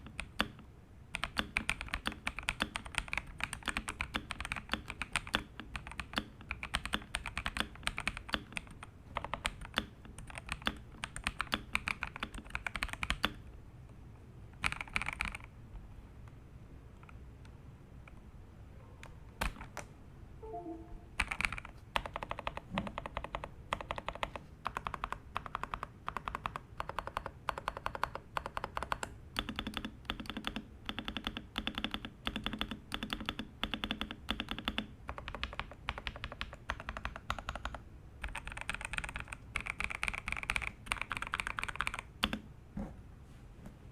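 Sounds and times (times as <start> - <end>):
typing on mechanical keyboard: 0.0 - 13.4, 14.6 - 15.5, 21.2 - 42.4.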